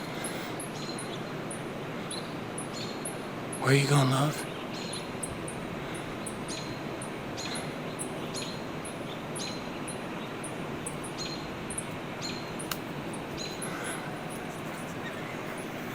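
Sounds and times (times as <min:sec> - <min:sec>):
small birds chirping: 0:00.0 - 0:15.9
steady ambient hiss: 0:00.0 - 0:15.9.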